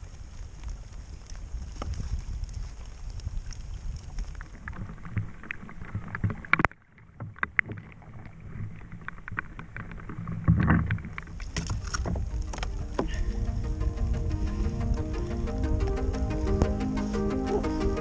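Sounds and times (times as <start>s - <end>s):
clicks and knocks of gear on kayak: 0.0s - 15.3s
low wind rumble: 0.0s - 18.0s.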